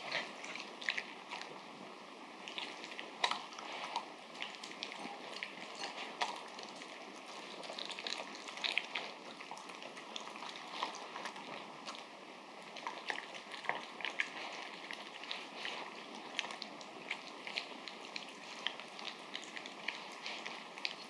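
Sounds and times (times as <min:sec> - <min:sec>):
dog chewing wetly: 0:00.0 - 0:01.7, 0:02.4 - 0:21.0.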